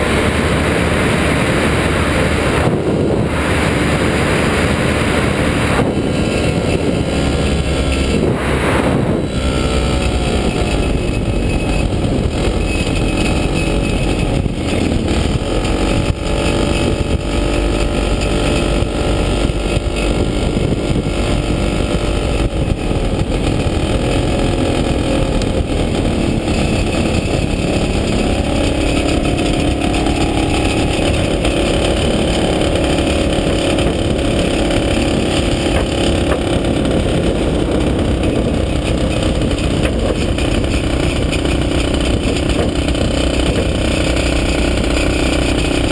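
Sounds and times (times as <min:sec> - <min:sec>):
aircraft engine and propeller: 0:00.0 - 0:45.9
wind rushing over microphone: 0:00.0 - 0:45.9.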